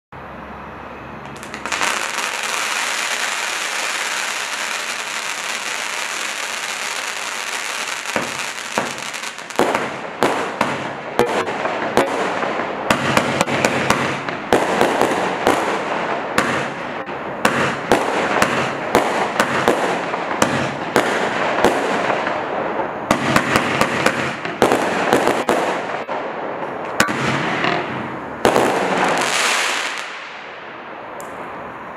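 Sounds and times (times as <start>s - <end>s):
firework hissing: 1.2s - 25.9s, 27.2s - 30.5s
firework shots with crackling bursts: 1.2s - 31.9s.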